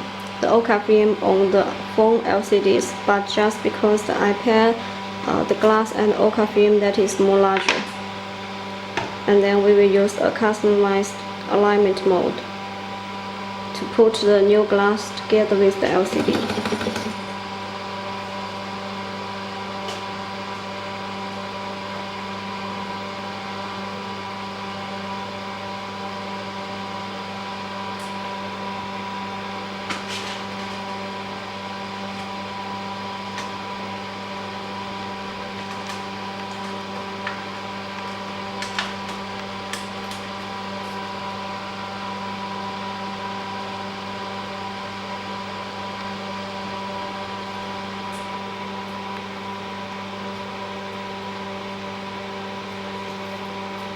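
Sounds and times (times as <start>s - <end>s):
electric machine hum: 0.0s - 53.9s.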